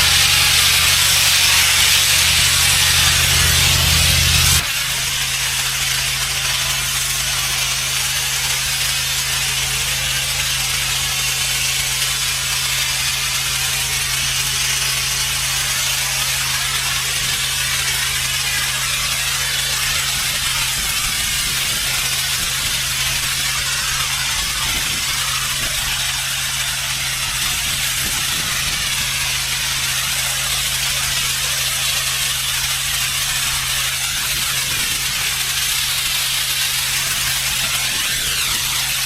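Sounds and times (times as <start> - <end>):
pressure washer engine hum: 0.0 - 39.0
water spraying onto pavement: 0.0 - 39.0.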